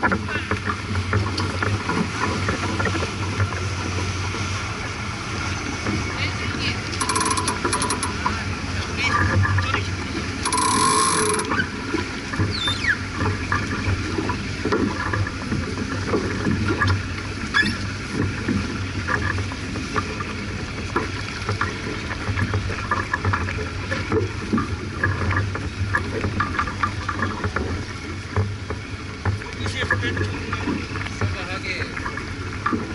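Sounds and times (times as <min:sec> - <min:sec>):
boat knocks and clicks: 0:00.0 - 0:32.9
water rushing along hull: 0:00.0 - 0:32.9.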